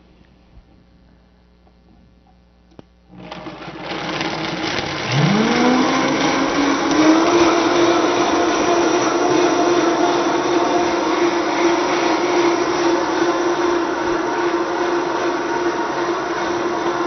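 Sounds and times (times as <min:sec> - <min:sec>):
blender motor whine: 0:03.1 - 0:17.0.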